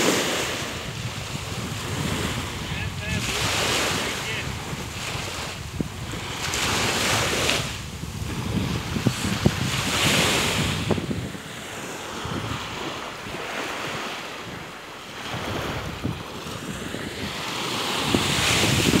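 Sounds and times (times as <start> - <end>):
waves washing up a sandy shore: 0.0 - 19.0
wind rumbling on microphone: 0.0 - 19.0.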